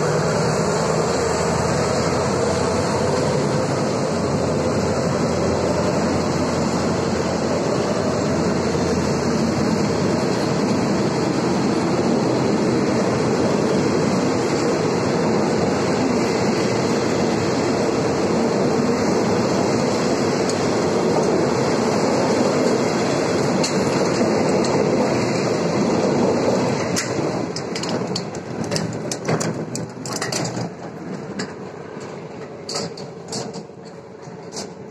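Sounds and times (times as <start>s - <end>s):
train wheels running on rails: 0.0s - 34.9s.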